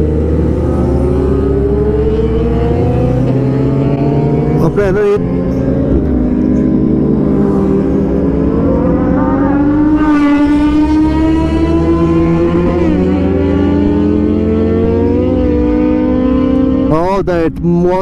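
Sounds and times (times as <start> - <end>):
motorcycle engine accelerating: 0.0 - 17.6.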